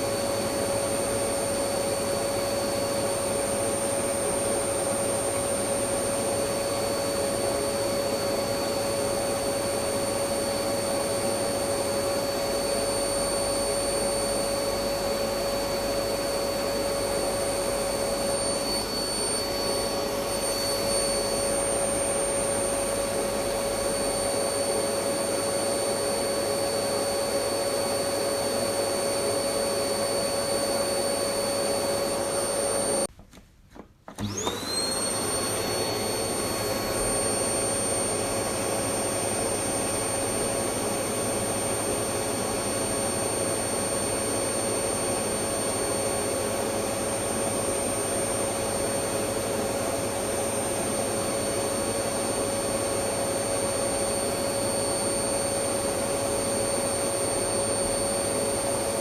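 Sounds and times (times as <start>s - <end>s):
vacuum cleaner running: 0.0s - 33.1s, 33.8s - 59.0s.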